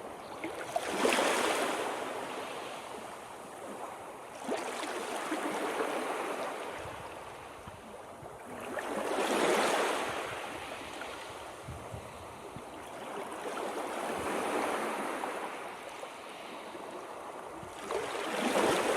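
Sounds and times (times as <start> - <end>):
ocean waves breaking on shore: 0.0 - 7.6, 8.3 - 18.9.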